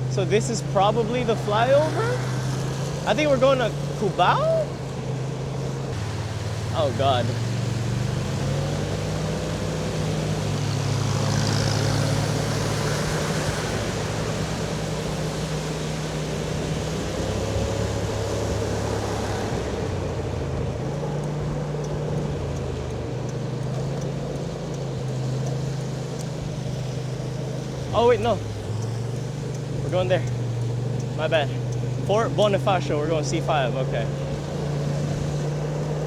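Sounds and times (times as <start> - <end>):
scooter engine cruising: 0.0 - 36.0
wet road spray hiss: 0.1 - 36.0.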